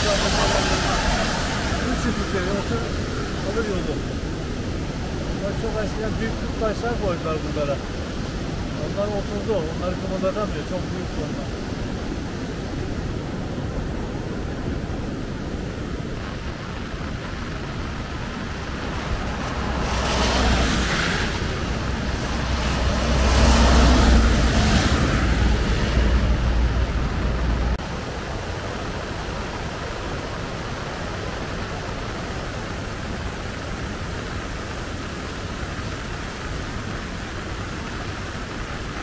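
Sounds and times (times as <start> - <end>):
fast-flowing river rushing: 0.0 - 39.0
truck tyres hissing on wet road: 0.0 - 39.0.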